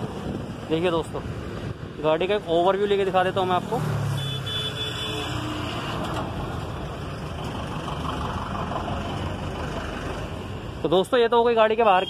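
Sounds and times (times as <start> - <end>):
road traffic engines: 0.0 - 12.0.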